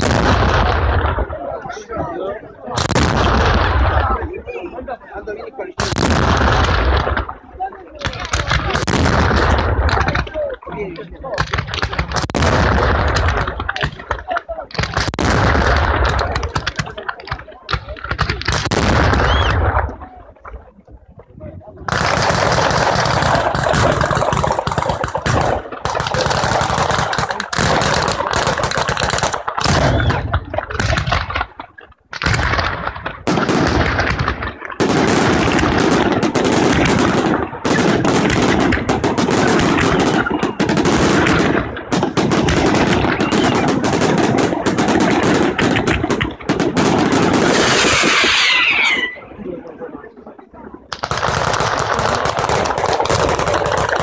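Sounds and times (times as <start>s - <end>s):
rapid firecracker bangs: 0.0s - 1.4s, 2.7s - 4.3s, 5.7s - 10.6s, 11.3s - 19.9s, 21.9s - 49.2s, 50.9s - 54.0s.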